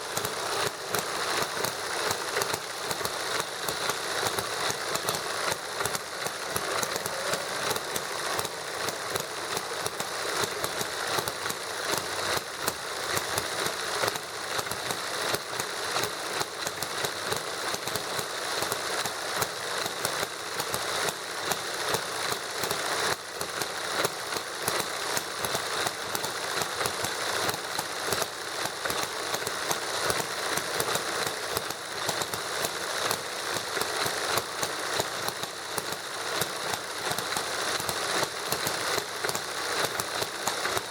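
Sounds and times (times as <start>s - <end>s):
small model engines clattering: 0.0s - 40.9s.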